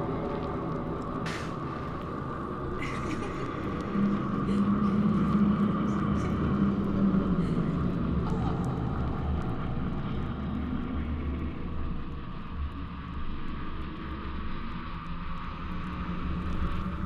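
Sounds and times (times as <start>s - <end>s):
faint hum: 0.0s - 17.0s
steady low rumble: 0.0s - 17.0s.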